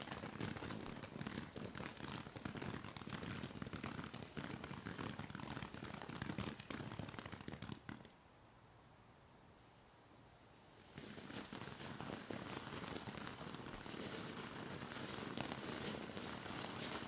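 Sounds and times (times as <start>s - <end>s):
firework fountain hissing and crackling: 0.0s - 8.0s, 10.8s - 17.0s.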